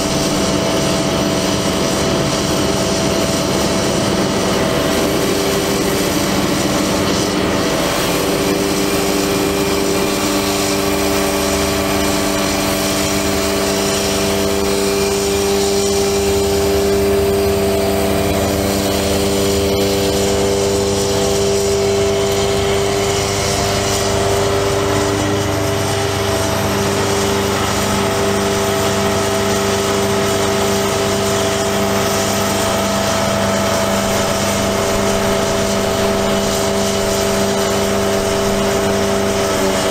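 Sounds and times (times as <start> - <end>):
hydraulic crane whine: 0.0 - 39.9
truck engine running: 0.0 - 39.9.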